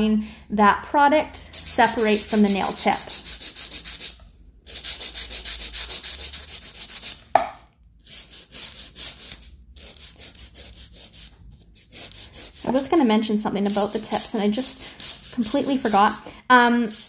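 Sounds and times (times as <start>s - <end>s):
nail file scraping plastic: 1.5s - 7.3s, 8.0s - 17.0s.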